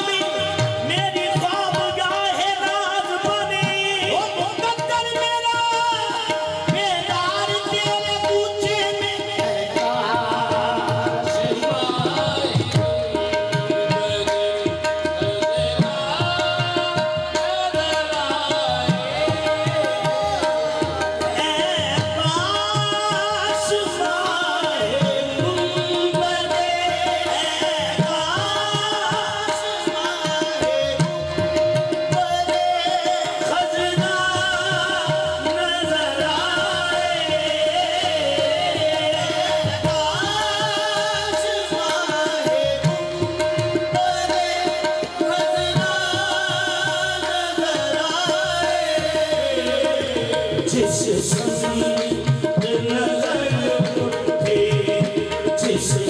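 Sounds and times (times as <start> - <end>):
tabla drumming: 0.0 - 56.0.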